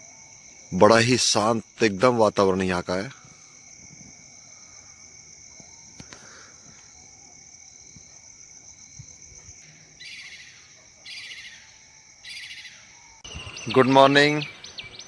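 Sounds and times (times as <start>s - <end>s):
crickets trilling: 0.0s - 15.0s
rapid cricket chirping: 0.0s - 15.0s.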